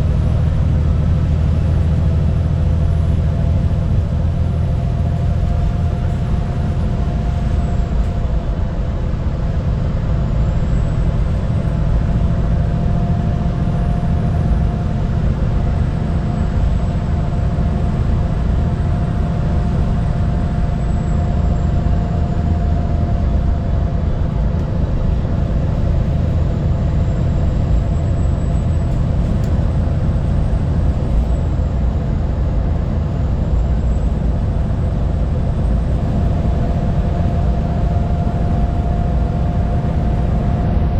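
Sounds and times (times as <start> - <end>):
bus engine drone: 0.0 - 40.9
road rumble: 0.0 - 40.9.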